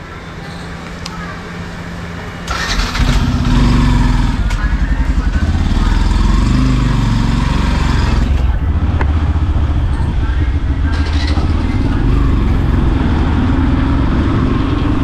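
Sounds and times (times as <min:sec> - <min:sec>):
motorcycle engine idling: 0:02.1 - 0:15.0.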